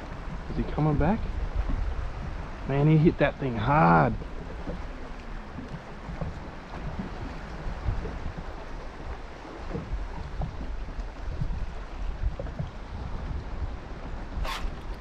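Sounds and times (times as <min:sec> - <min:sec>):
soft low bumps and knocks: 0:00.0 - 0:02.5, 0:03.9 - 0:14.2
water noise: 0:00.0 - 0:15.0
wind buffeting microphone: 0:00.0 - 0:15.0.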